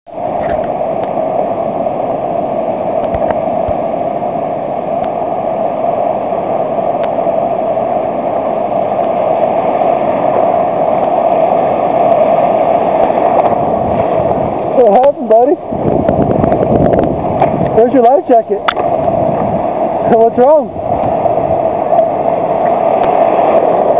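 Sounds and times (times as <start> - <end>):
small surf breaking: 0.1 - 23.9.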